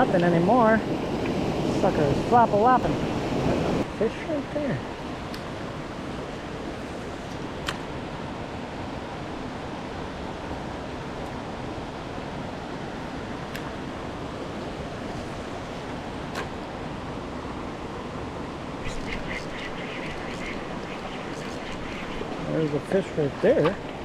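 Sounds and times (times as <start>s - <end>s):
river water rushing: 0.8s - 24.0s.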